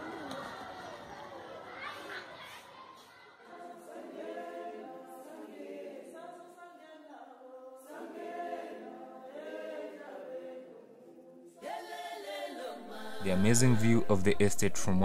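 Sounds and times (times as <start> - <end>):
choir singing without instruments: 0.0 - 15.0.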